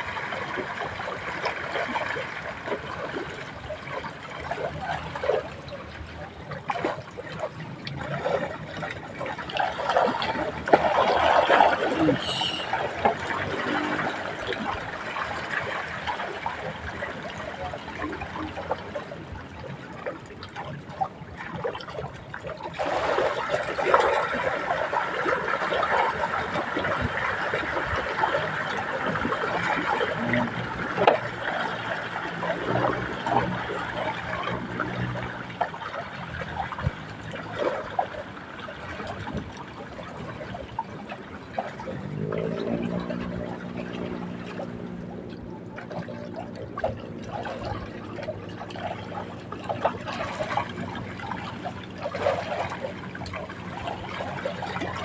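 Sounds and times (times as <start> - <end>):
water trickling and sloshing: 0.0 - 55.0.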